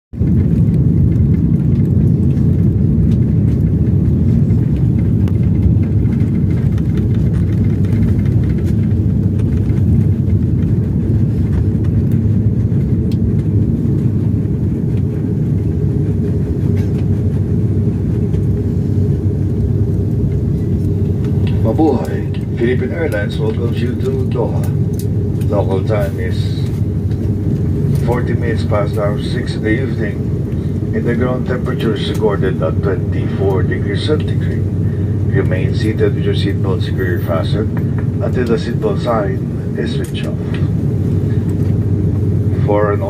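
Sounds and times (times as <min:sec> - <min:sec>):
airliner cabin rumble: 0:00.1 - 0:43.0.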